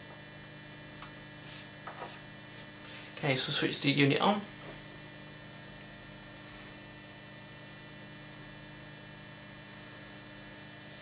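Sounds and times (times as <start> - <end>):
electrical hum with faint hiss: 0.0 - 11.0.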